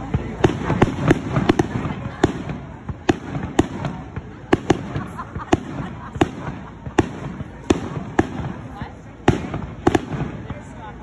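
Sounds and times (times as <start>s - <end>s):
steady noisy background: 0.0s - 11.0s.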